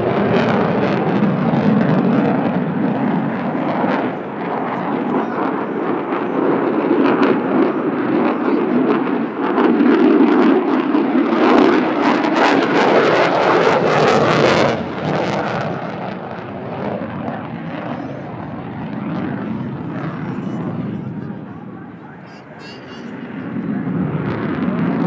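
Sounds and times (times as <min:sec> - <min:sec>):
jet engine roar with crackle: 0:00.0 - 0:25.0.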